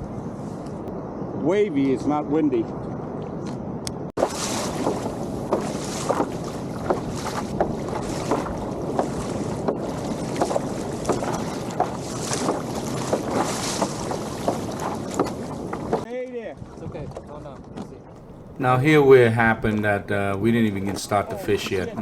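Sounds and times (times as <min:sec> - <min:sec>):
wind buffeting microphone: 0:00.0 - 0:22.0
water splashing against hull: 0:04.2 - 0:22.0.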